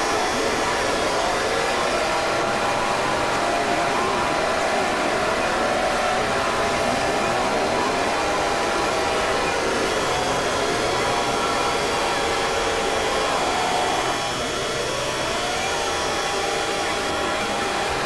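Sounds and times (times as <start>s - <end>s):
harsh alarm noise with held tones: 0.0s - 18.0s.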